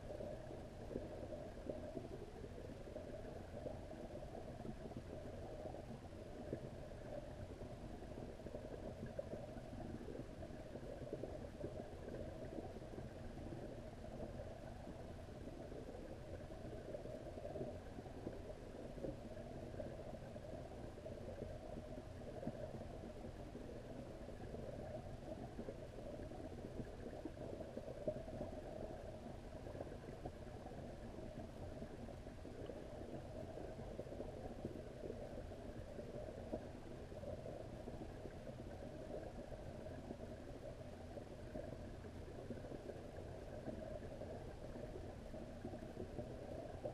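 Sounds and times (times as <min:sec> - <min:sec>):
faint constant hum: 0:00.0 - 0:46.9
underwater rumble of water: 0:00.0 - 0:46.9.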